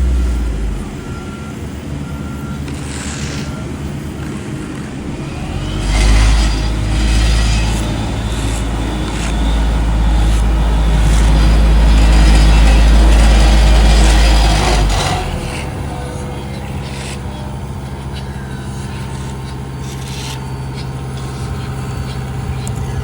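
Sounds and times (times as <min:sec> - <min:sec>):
heavy diesel machinery rumbling: 0:00.0 - 0:23.0.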